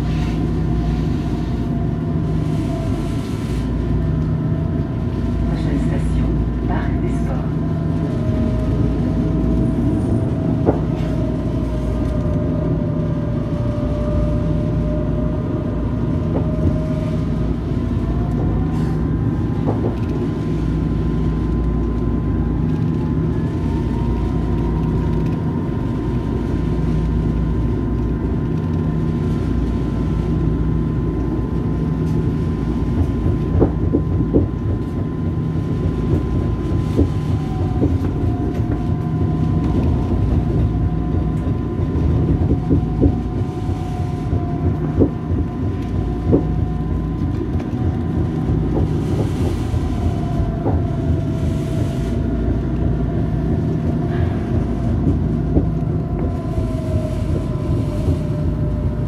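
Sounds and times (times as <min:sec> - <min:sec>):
tram wheels rumbling on rail: 0:00.0 - 0:59.0.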